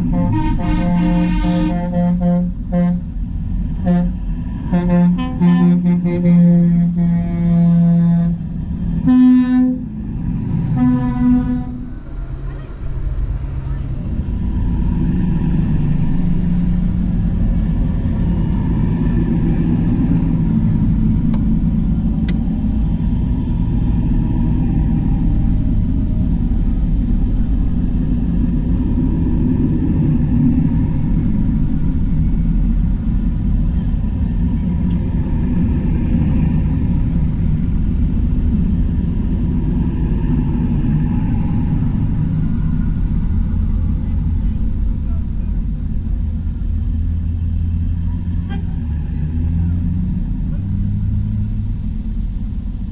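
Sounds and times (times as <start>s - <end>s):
tractor engines rumbling: 0.0s - 52.9s.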